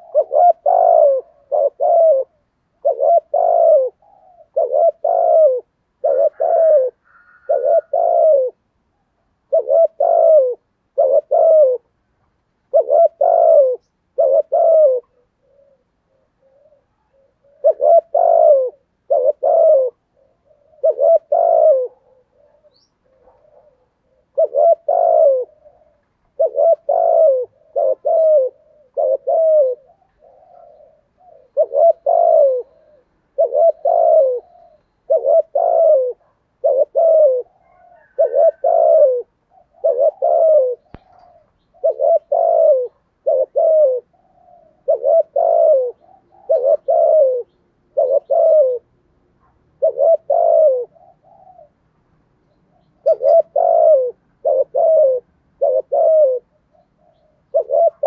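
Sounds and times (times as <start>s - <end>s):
dove cooing: 0.0s - 12.0s, 12.6s - 58.0s.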